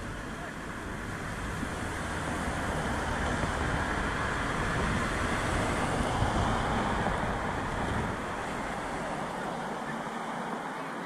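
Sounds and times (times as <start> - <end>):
wind rumble on microphone: 0.0 - 9.3
road traffic hiss: 0.0 - 11.0.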